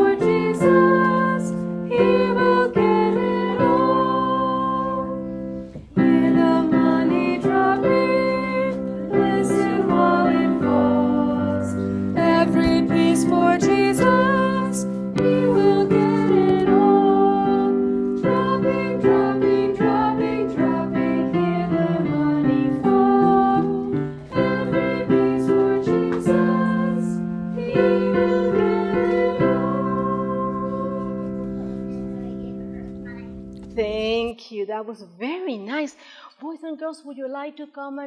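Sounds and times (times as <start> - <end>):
keyboard playing children's song: 0.0 - 33.8.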